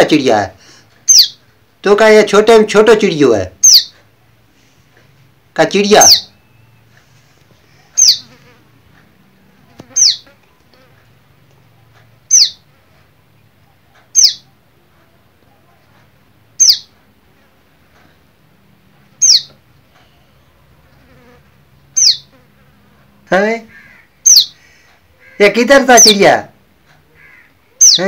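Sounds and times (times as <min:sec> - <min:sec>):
fledgling bird chirping: 0:01.0 - 0:02.2, 0:03.5 - 0:04.4, 0:05.6 - 0:15.9, 0:16.5 - 0:18.1, 0:18.8 - 0:26.3, 0:27.0 - 0:28.0.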